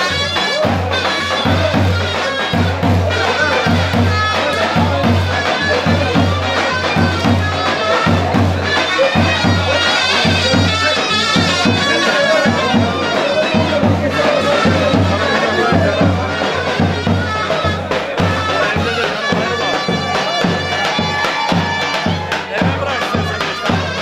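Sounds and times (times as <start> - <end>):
shrill reed wind instrument: 0.0 - 24.0
steady drum beat: 0.0 - 24.0.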